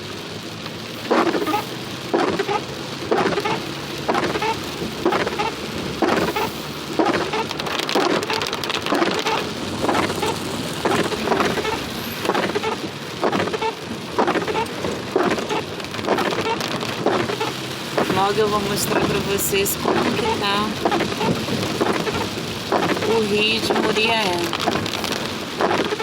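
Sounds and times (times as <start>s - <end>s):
heavy rain falling: 0.0s - 26.0s
raindrops knocking near microphone: 0.0s - 26.0s.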